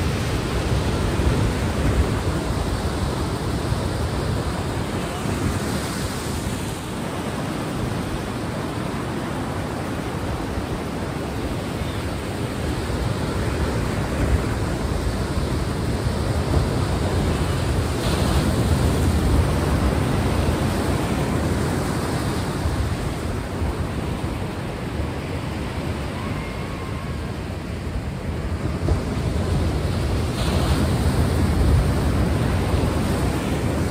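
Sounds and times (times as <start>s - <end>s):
sea waves washing on shore: 0.0s - 33.9s.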